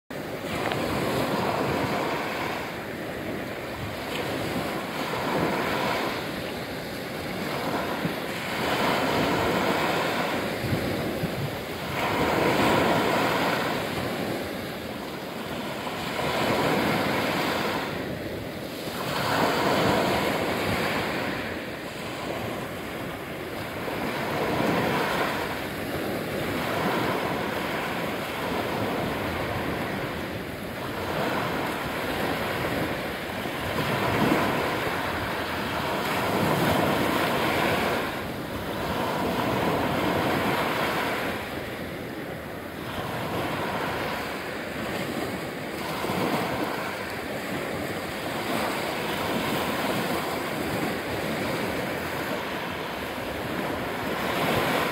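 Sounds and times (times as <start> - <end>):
waves breaking on shore: 0.1 - 54.9.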